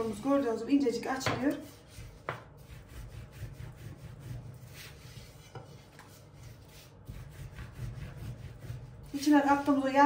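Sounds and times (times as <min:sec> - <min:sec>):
rolling pin rubbing on dough: 0:01.3 - 0:10.0.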